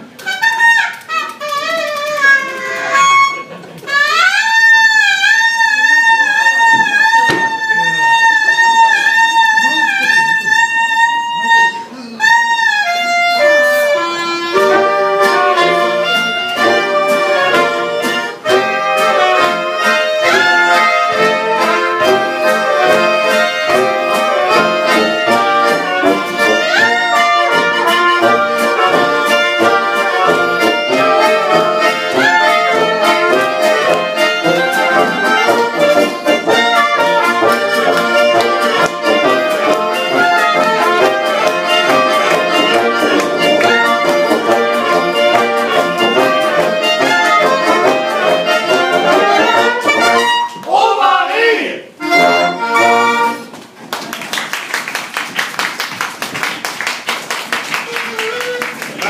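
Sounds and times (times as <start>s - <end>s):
oompah band playing folk tune: 0.0s - 51.2s, 51.9s - 54.0s, 55.2s - 59.0s.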